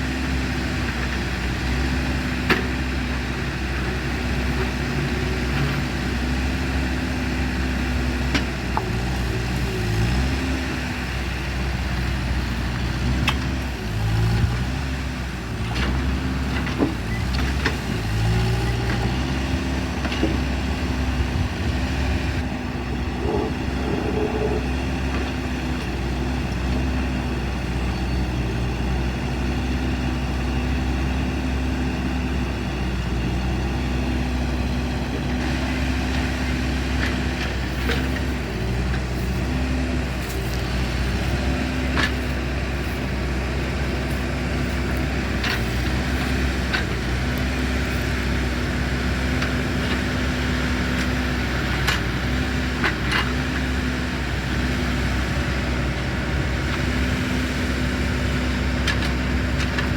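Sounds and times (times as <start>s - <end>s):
large engine rumbling: 0.0s - 59.9s.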